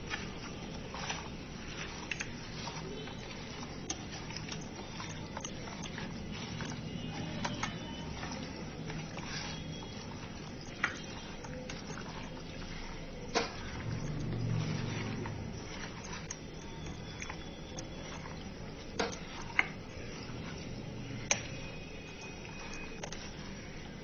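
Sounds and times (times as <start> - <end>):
meat clicking against steel bowl: 0.0 - 24.0
steady low hum: 0.0 - 24.0
wet squishing of meat mixed by hand: 0.0 - 24.0.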